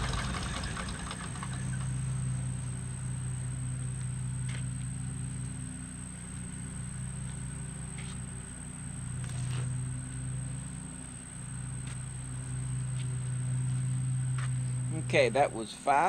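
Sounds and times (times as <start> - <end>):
engine idling with low hum: 0.0 - 16.0.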